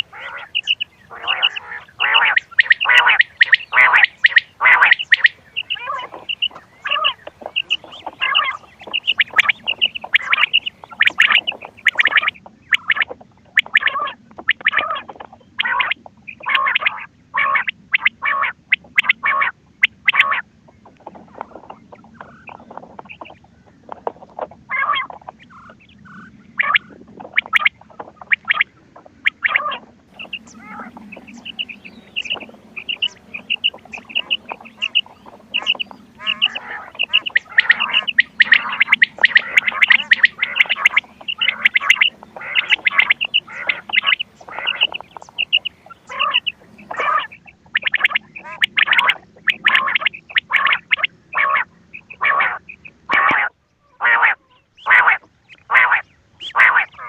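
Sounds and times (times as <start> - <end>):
quail calls: 0.0 - 20.4, 21.1 - 57.0
faint steady hum: 0.0 - 57.0.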